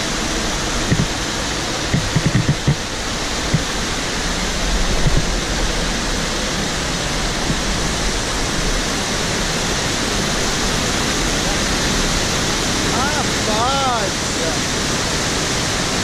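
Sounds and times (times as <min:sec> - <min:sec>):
water cascading over rock: 0:00.0 - 0:16.0.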